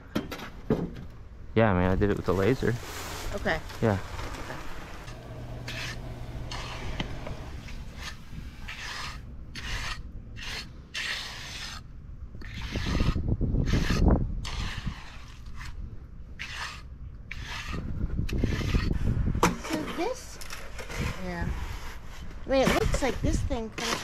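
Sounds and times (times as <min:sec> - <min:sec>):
trowel scraping wet concrete: 0:02.2 - 0:24.0.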